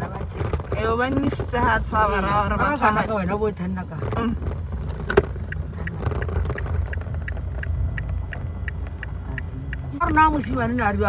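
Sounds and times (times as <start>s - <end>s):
car interior rumble: 0.0s - 11.0s
turn signal ticking: 0.0s - 11.0s.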